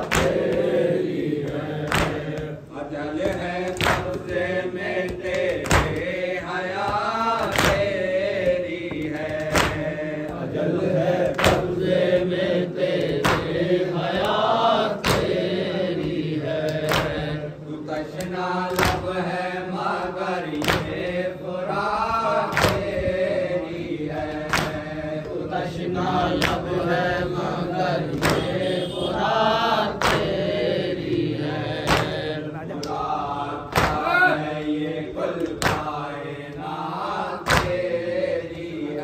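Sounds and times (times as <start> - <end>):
hands slapping chests: 0.0 - 21.3, 22.2 - 25.5, 26.2 - 27.0, 28.0 - 28.7, 29.9 - 30.6, 31.8 - 36.7, 37.3 - 38.7
men chanting a lament: 0.0 - 39.0.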